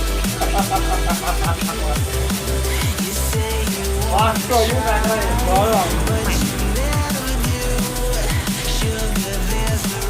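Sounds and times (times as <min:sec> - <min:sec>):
electronic music with bass beat: 0:00.0 - 0:10.0.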